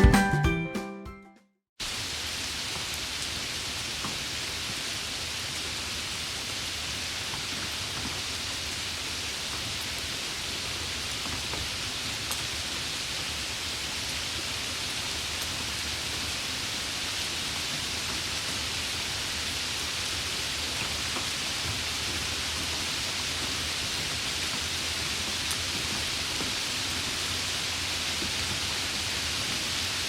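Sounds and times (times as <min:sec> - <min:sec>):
steady rain hiss: 0:01.8 - 0:30.0
ticks of raindrops: 0:01.8 - 0:30.0.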